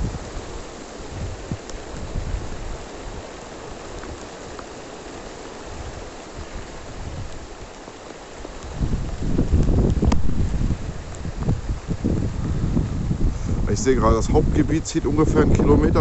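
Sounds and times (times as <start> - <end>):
wind buffeting microphone: 0.0 - 4.6, 5.4 - 16.0
heavy rain hiss: 0.0 - 16.0.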